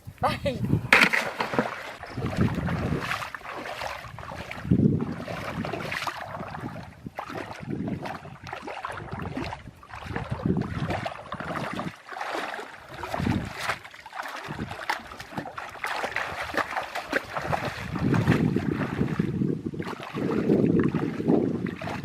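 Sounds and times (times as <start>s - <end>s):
wind buffeting microphone: 0.0s - 1.0s, 2.0s - 12.0s, 12.8s - 13.8s, 14.4s - 22.0s
water splashing and sloshing: 0.0s - 22.0s.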